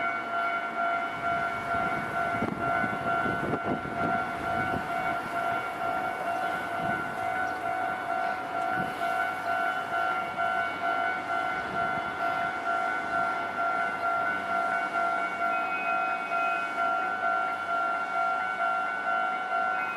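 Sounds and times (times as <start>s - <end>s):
level crossing warning bell: 0.0s - 19.9s.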